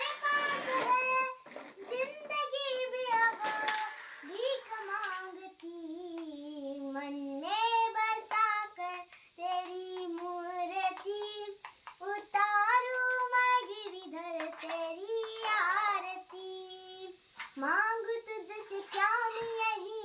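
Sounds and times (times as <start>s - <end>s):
girl singing devotional song: 0.0s - 20.0s.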